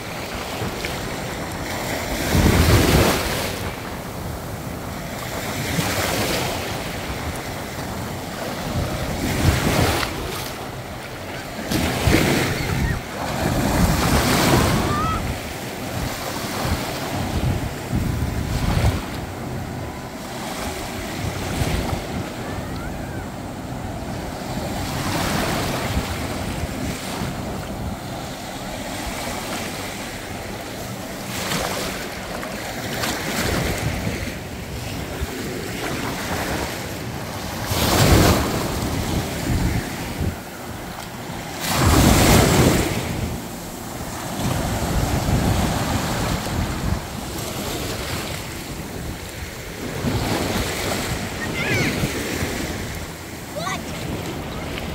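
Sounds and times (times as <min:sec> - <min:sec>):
wind buffeting microphone: 0:00.0 - 0:31.3, 0:31.9 - 0:54.9
waves washing on sandy shore: 0:00.0 - 0:54.9.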